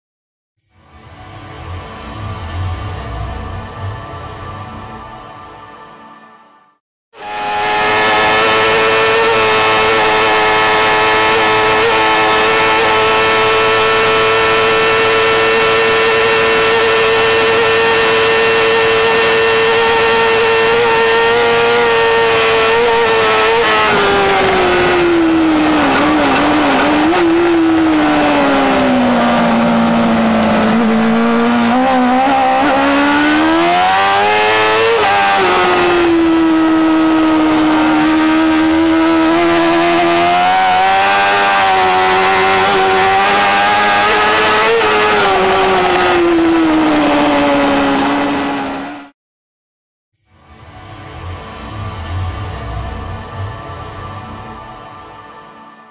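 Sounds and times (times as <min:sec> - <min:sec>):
motorcycle engine racing: 0:00.6 - 0:04.8, 0:07.2 - 0:49.1, 0:50.3 - 0:55.9.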